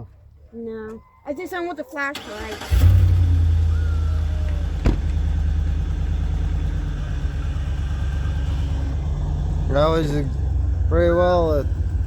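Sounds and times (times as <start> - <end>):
car engine idling: 2.1 - 12.0.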